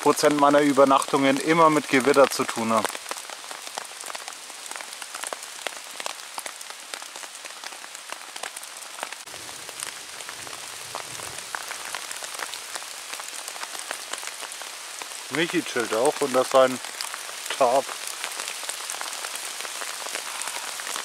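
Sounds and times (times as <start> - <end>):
raindrops striking a tarp: 0.0 - 21.0
steady rain hiss: 0.0 - 21.0.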